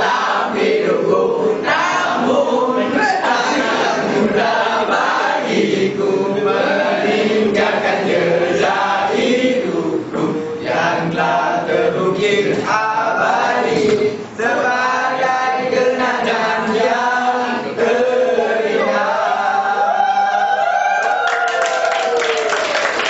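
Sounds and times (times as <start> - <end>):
students singing in unison: 0.0 - 20.1.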